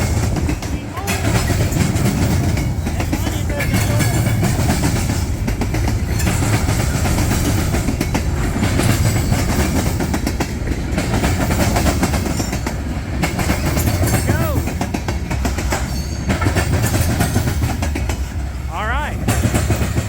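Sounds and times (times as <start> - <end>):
freight train rumbling past: 0.0 - 20.0
train wheels clicking on rails: 0.0 - 20.0.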